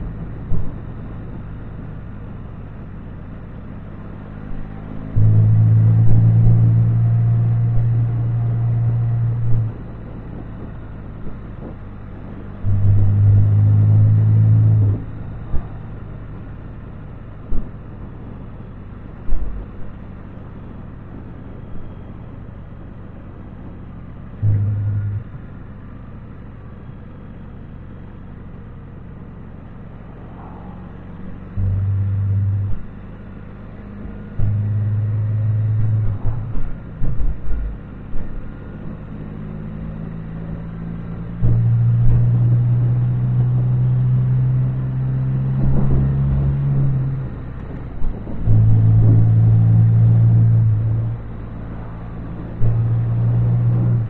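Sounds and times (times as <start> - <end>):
motorcycle engine and road drone: 0.0 - 54.0.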